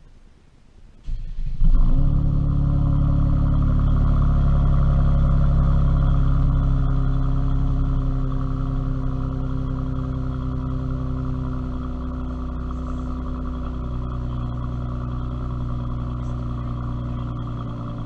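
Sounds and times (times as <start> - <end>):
car engine starting and idling: 0.6 - 18.0.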